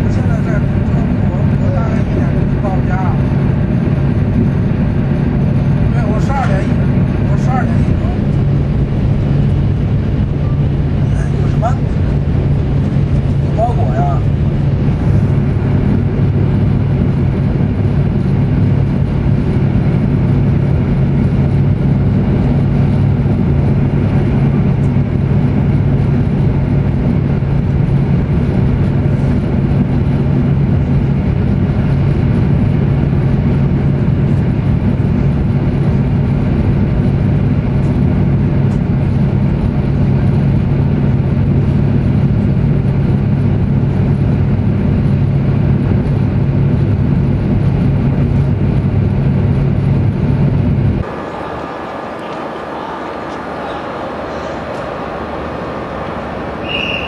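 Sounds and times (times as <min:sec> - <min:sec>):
high-speed train rumble: 0:00.0 - 0:57.0.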